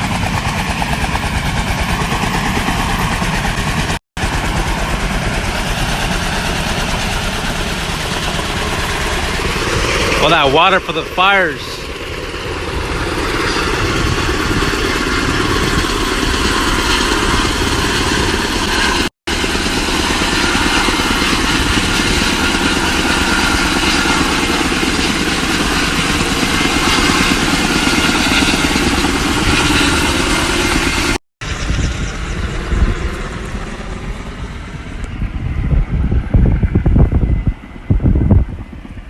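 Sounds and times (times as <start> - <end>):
helicopter rotor chopping: 0.0 - 39.0.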